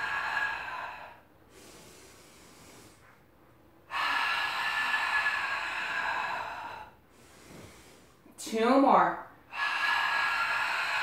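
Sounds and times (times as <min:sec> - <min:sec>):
woman exhaling forcefully: 0:00.0 - 0:03.0, 0:03.9 - 0:08.2, 0:09.5 - 0:11.0.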